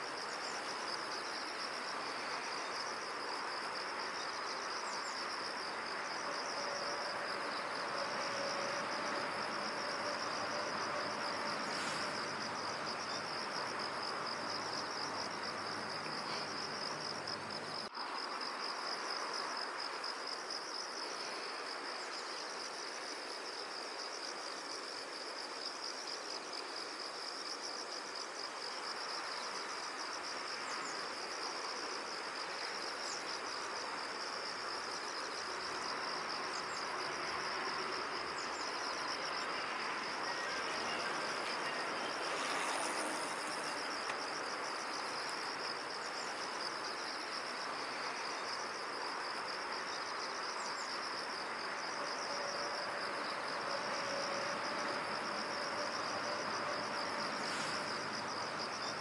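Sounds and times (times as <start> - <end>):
insects trilling: 0.0 - 59.0
low outdoor hiss: 0.0 - 59.0.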